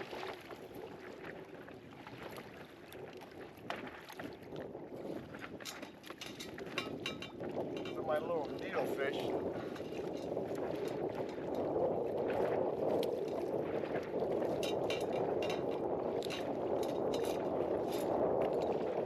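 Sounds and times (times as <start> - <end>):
water slapping inflatable boat: 0.0 - 19.0
wind on microphone: 0.0 - 19.0.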